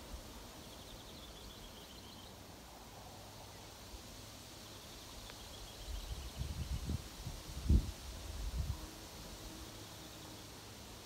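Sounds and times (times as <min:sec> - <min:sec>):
wind rustling leaves: 0:00.0 - 0:11.0.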